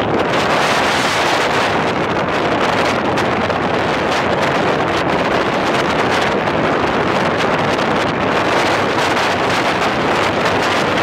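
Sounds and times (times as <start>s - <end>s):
road noise: 0.0s - 11.0s
wind rushing over microphone: 0.0s - 11.0s.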